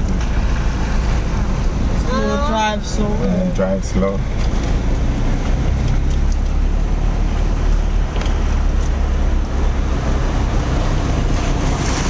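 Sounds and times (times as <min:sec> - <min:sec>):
low engine rumble: 0:00.0 - 0:12.0
water washing under vehicle: 0:00.0 - 0:12.0.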